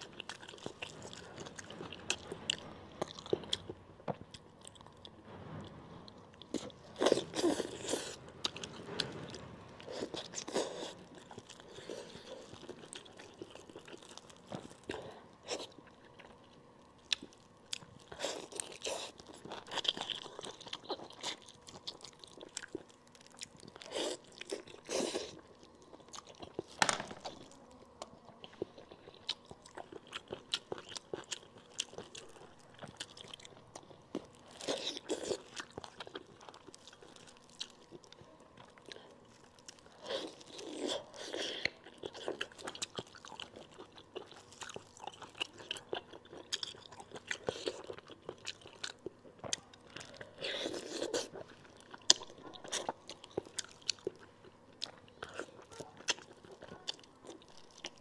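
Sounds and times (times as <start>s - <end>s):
person chewing and biting food: 0.0s - 5.1s, 6.4s - 58.0s.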